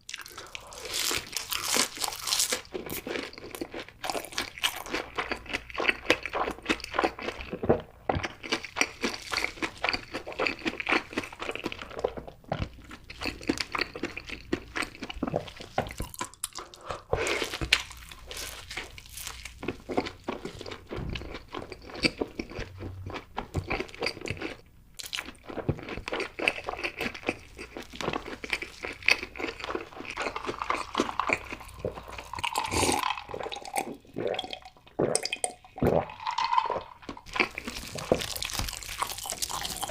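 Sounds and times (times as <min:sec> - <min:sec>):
crunchy chewing of fried food: 0:00.0 - 0:35.1, 0:36.1 - 0:39.9.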